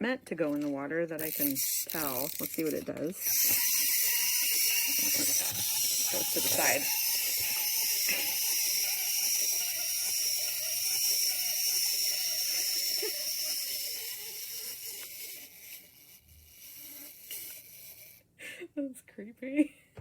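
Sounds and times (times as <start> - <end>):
wind-up toy motor whirring: 0.4 - 18.3.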